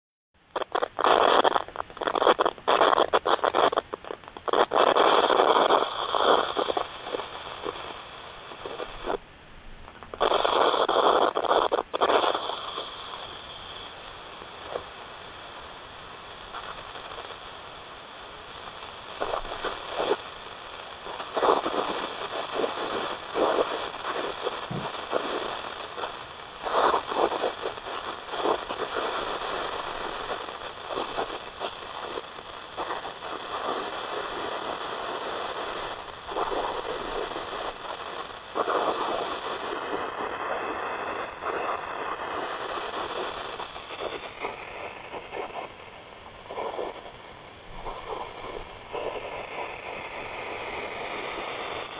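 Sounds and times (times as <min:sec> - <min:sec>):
speaker hiss with crackles and pops: 0:00.4 - 0:51.9.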